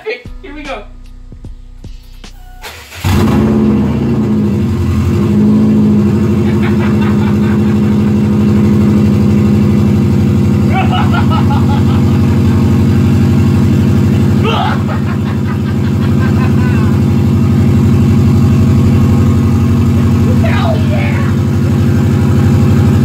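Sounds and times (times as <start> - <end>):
car engine starting and idling: 0.5 - 23.0.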